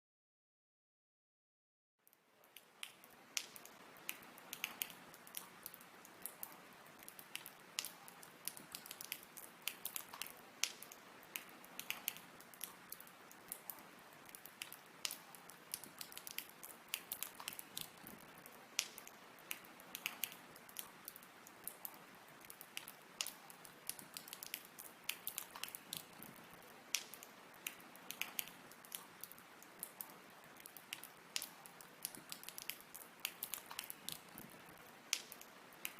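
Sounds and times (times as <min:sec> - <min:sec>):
faint steady hiss: 0:02.0 - 0:35.9
water droplets dripping: 0:02.0 - 0:35.9.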